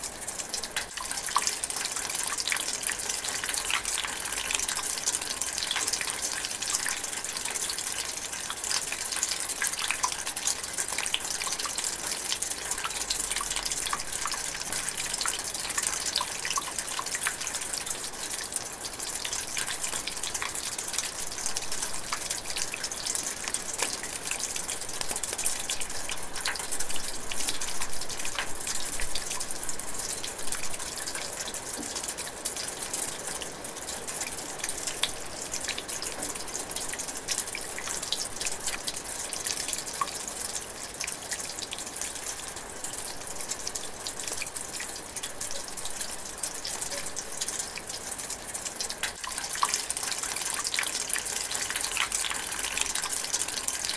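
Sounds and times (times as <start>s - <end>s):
light rain drizzling: 0.0s - 53.9s.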